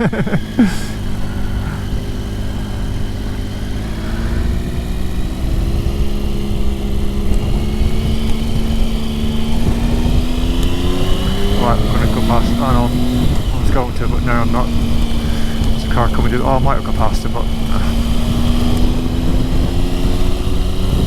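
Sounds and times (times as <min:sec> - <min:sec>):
motorcycle engine running: 0:00.0 - 0:21.0
wind noise on microphone: 0:02.9 - 0:21.0.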